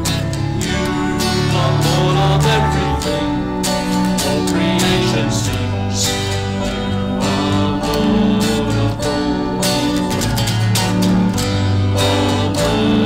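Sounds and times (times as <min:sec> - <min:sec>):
acoustic guitar strumming: 0:00.0 - 0:13.0
held keyboard notes: 0:00.0 - 0:13.0.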